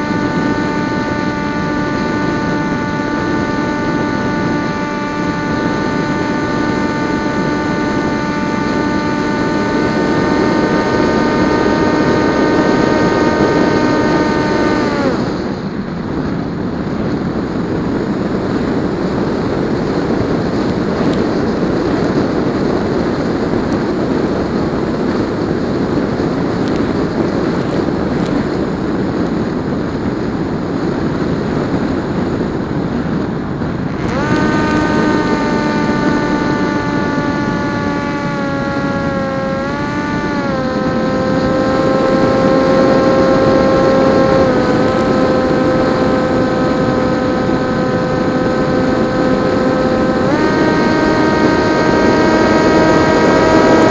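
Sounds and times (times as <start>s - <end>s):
electric motor and propeller whine: 0.0s - 53.9s.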